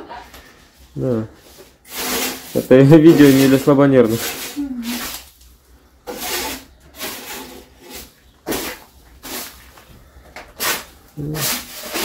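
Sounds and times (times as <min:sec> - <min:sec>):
broom scraping wooden ceiling: 0:00.5 - 0:12.0.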